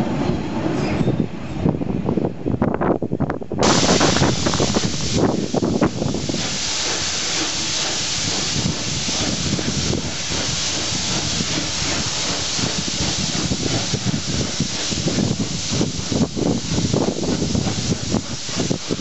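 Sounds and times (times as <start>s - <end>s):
train rumble: 0.0s - 19.0s
steam hissing: 3.6s - 19.0s.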